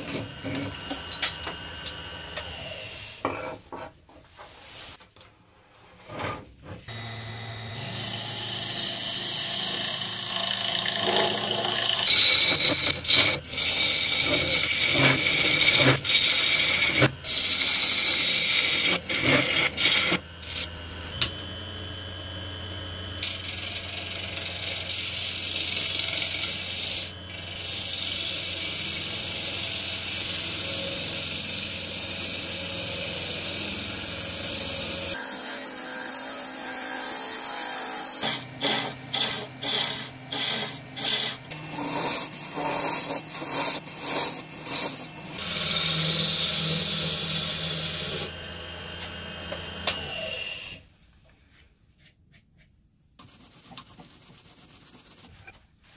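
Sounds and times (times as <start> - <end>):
lathe humming: 0.0 - 3.2, 6.9 - 50.8.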